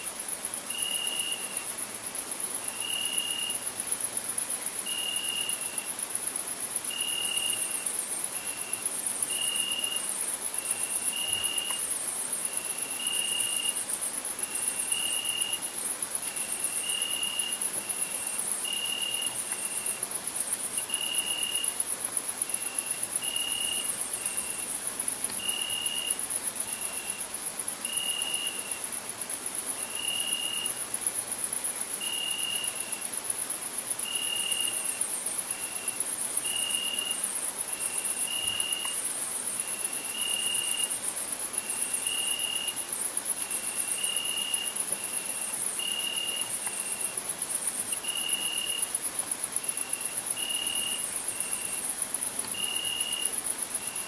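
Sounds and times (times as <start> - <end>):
high-pitched cricket trill: 0.0 - 54.0
lower cricket chirps: 0.0 - 54.0.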